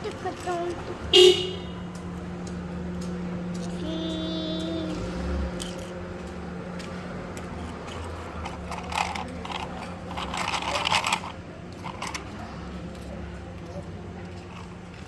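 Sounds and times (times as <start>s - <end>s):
toy vehicles clicking: 1.8s - 15.0s
toys rattling and scraping: 1.9s - 15.0s.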